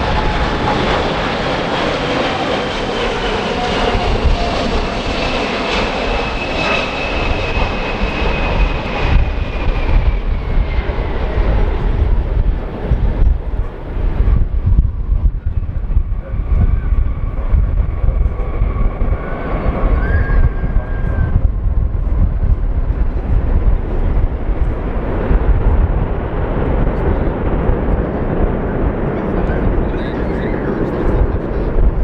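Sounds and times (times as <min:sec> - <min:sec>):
jet engines rumbling: 0:00.0 - 0:32.0
wind buffeting microphone: 0:00.0 - 0:32.0.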